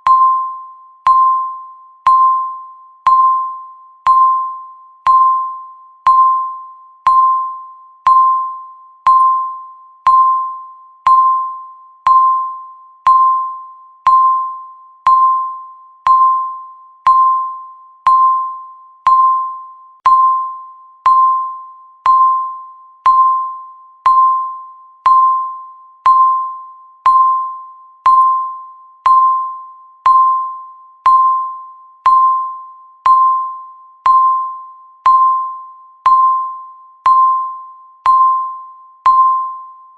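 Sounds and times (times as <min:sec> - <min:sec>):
electronic timer ding: 0:00.0 - 0:39.9.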